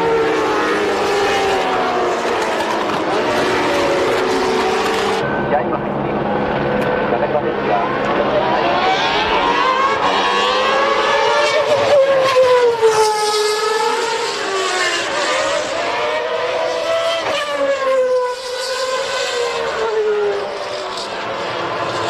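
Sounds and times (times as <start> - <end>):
racing car engine high-pitched: 0.0 - 22.0.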